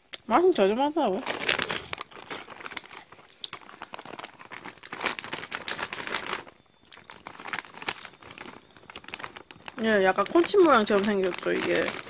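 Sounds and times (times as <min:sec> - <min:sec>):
plastic snack bag crinkling: 0:00.4 - 0:12.0.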